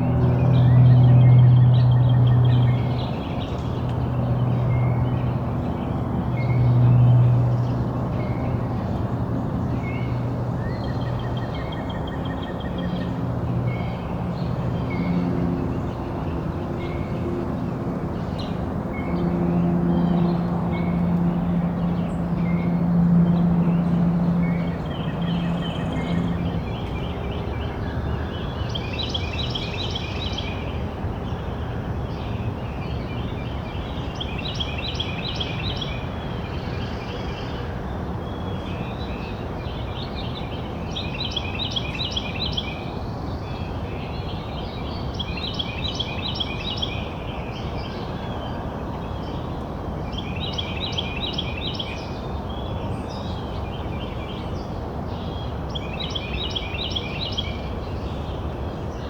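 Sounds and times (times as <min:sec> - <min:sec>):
songbird singing: 0:00.0 - 0:30.7, 0:38.7 - 0:59.0.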